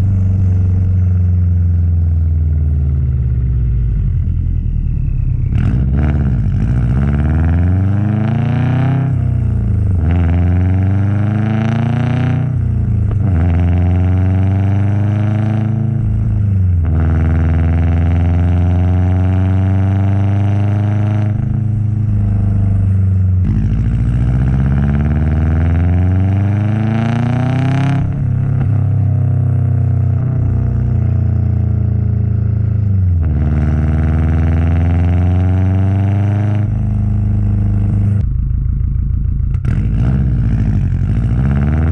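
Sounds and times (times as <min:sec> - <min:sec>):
car engine accelerating through gears: 0:00.0 - 0:41.9.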